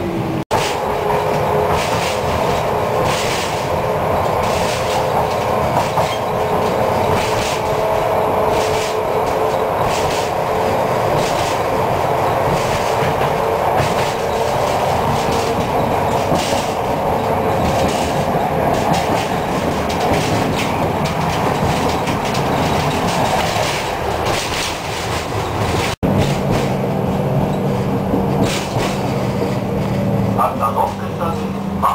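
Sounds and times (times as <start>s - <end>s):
tram rumble and rattle: 0.0s - 31.9s
wheels clacking over rail joints: 0.5s - 31.9s.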